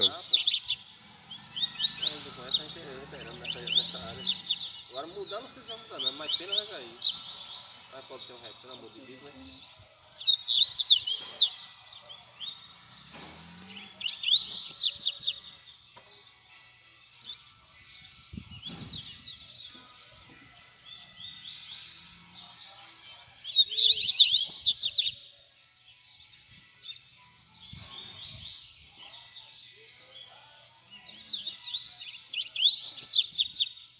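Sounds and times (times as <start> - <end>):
birds twittering: 0.0 - 16.3, 17.1 - 25.4, 26.1 - 33.9.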